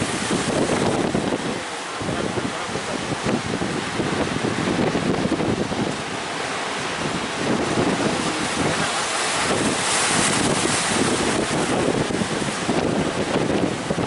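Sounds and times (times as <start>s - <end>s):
rough sea waves rushing: 0.0s - 14.0s
wind buffeting microphone: 0.0s - 14.0s.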